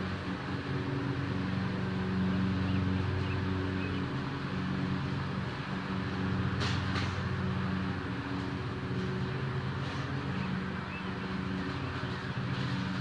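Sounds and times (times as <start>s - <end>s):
lawn mower engine droning: 0.0s - 13.0s.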